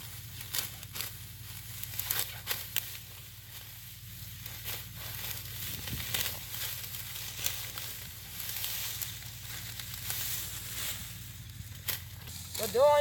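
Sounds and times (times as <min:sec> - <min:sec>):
dry wheat stalks rustling: 0:00.0 - 0:13.0
sharp snaps of stalks: 0:00.4 - 0:03.6, 0:04.5 - 0:12.8.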